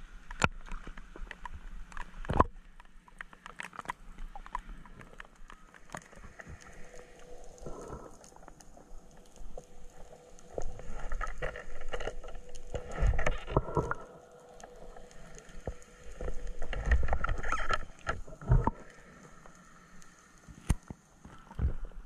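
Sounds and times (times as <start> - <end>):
underwater water sloshing: 0.0 - 22.0.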